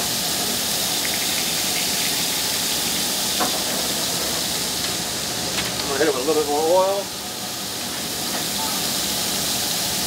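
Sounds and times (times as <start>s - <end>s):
fish sizzling on a griddle: 0.0s - 10.0s.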